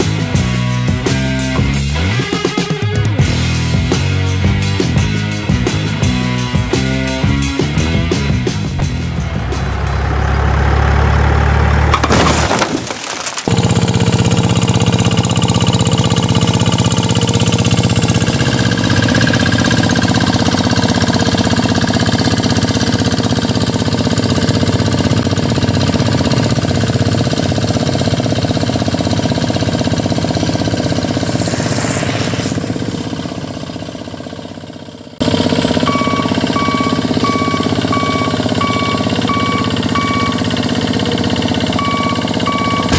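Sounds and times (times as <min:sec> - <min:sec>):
heavy vehicle engine rumbling: 0:06.0 - 0:42.9.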